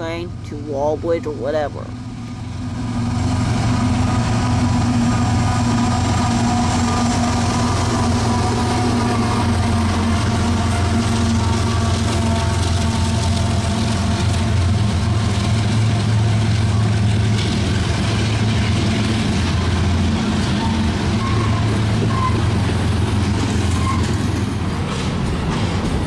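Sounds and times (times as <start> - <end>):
diesel locomotive engines droning: 0.0 - 26.0
freight cars rumbling past: 1.8 - 26.0.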